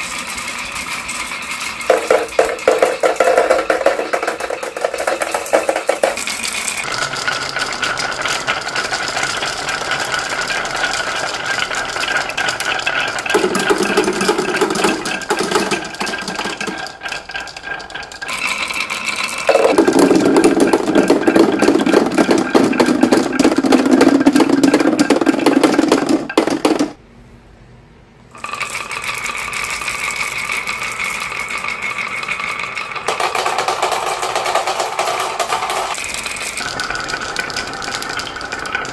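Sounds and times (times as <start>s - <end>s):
marbles rattling down a track: 0.0s - 26.8s, 28.4s - 38.9s.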